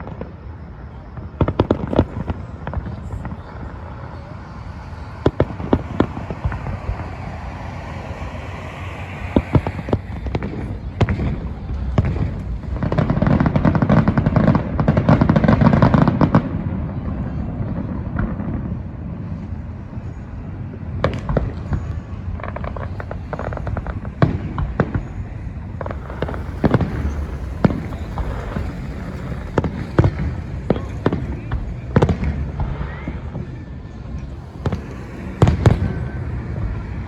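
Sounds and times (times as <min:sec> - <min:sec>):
fireworks crackling pops: 0:00.0 - 0:16.6, 0:21.0 - 0:33.4, 0:34.2 - 0:37.0
fireworks sharp bangs: 0:00.0 - 0:16.7, 0:20.8 - 0:32.9, 0:34.2 - 0:37.0.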